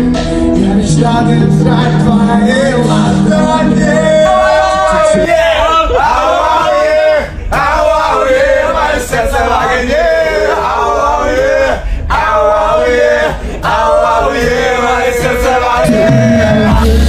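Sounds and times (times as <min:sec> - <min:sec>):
men singing together: 0:00.6 - 0:17.0.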